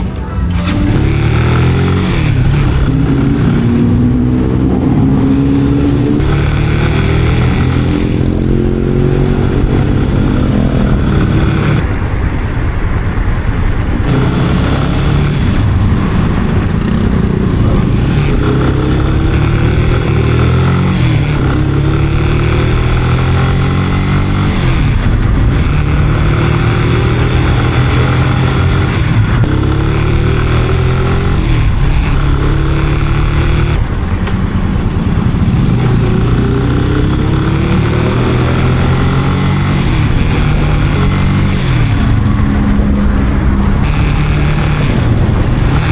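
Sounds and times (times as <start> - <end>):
motorcycle engine accelerating: 0.0 - 45.9
wind rushing over microphone: 0.0 - 45.9.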